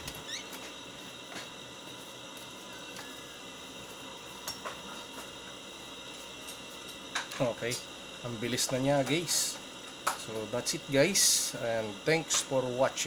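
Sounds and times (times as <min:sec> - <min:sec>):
steady hiss: 0:01.8 - 0:13.0.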